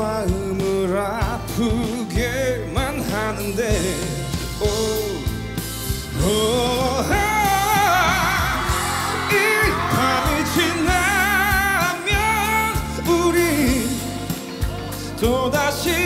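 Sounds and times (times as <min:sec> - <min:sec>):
band accompaniment: 0:00.0 - 0:16.0
man singing rock ballad: 0:00.0 - 0:16.0.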